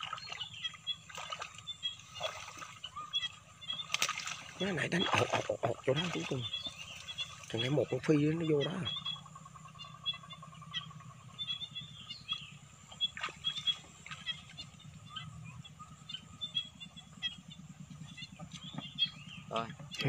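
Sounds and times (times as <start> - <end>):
bird chirps: 0.0 - 20.0
small engine droning: 0.0 - 20.0.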